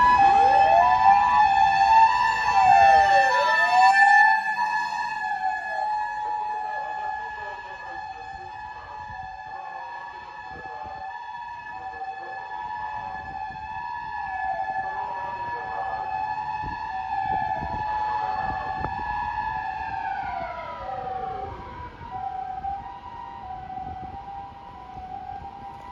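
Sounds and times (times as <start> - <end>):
electronic two-tone siren: 0.0 - 25.9.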